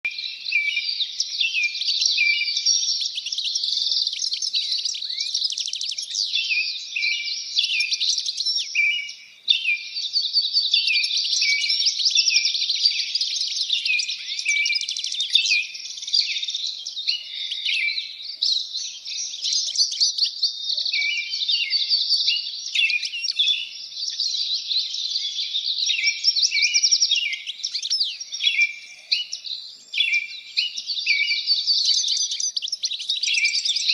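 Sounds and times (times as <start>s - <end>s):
songbirds chirping and singing: 0.0s - 33.9s.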